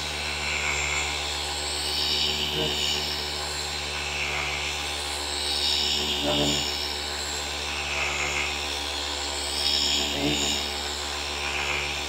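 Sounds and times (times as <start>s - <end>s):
orbital polisher whining: 0.0s - 12.0s.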